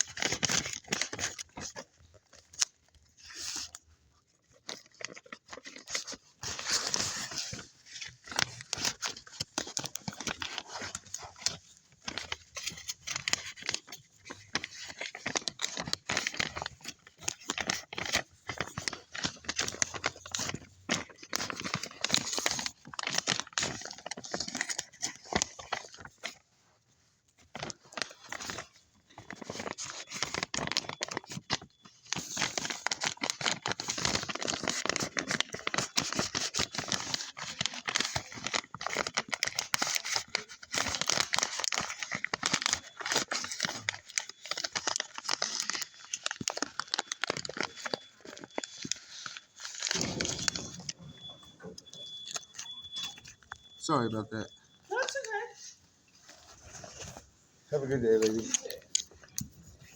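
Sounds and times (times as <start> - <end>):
crinkling rustling: 0.0 - 59.9.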